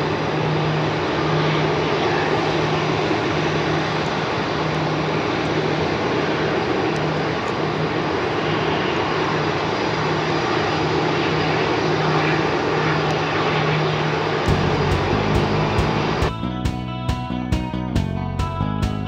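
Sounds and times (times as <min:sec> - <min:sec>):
jet engines running: 0:00.0 - 0:18.7.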